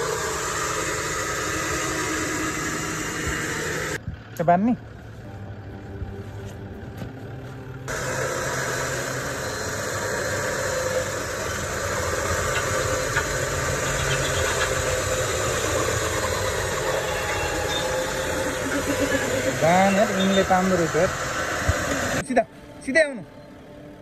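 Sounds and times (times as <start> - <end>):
even hiss: 0.0 - 4.7, 7.9 - 22.9
vehicle engine running: 0.0 - 24.0.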